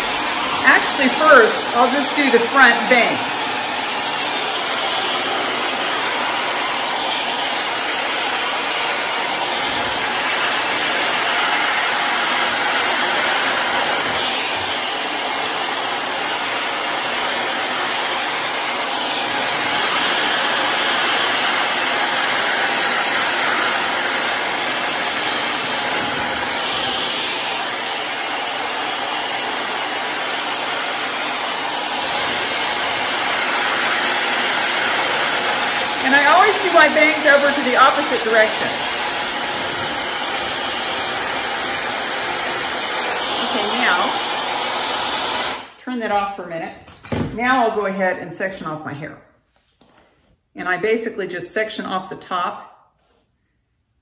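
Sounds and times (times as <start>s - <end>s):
hair dryer blowing air: 0.0s - 46.2s.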